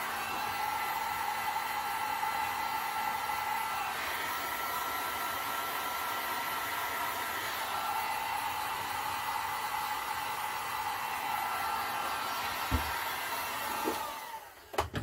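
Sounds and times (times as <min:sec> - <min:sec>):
heat gun fan whine: 0:00.0 - 0:15.0.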